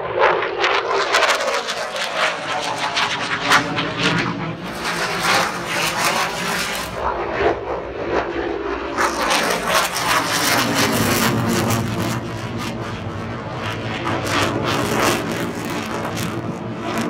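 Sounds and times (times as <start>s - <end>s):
jet engine flying overhead: 0.0s - 17.0s.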